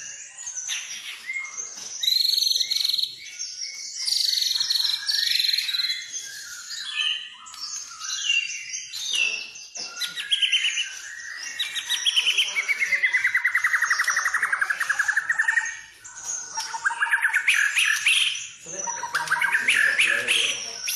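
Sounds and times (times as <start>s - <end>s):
bird singing whistled phrases: 0.0s - 20.9s.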